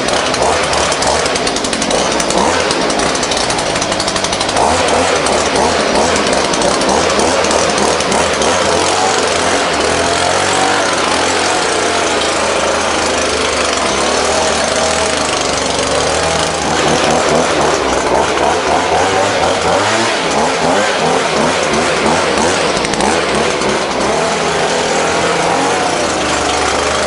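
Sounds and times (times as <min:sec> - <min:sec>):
leaf blower running: 0:00.0 - 0:27.0.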